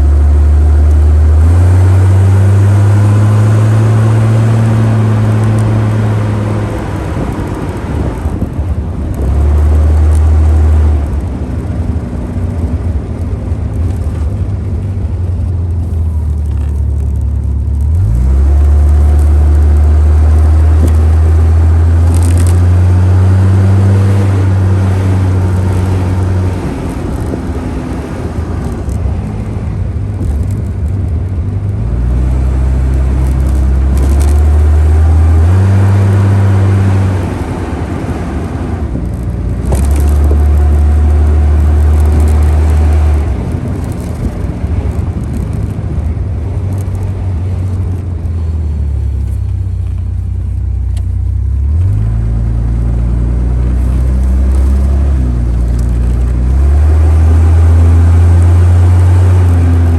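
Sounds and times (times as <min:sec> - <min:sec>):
car engine drone: 0:00.0 - 0:59.9.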